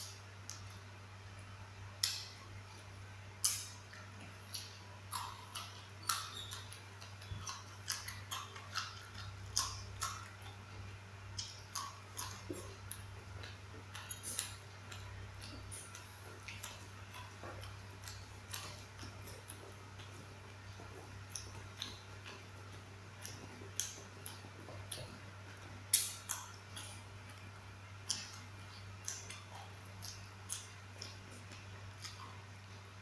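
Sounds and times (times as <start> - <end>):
beans being chewed with crunches: 0.0 - 33.0
steady low hum: 0.0 - 33.0.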